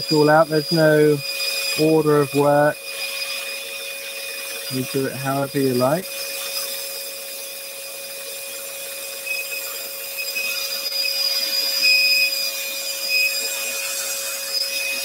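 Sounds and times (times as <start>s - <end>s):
scroll saw cutting wood: 0.0s - 15.0s.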